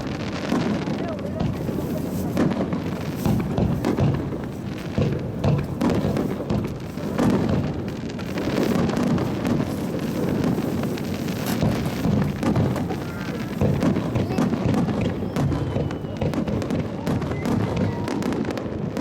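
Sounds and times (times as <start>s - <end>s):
fireworks booming and crackling: 0.0s - 19.0s.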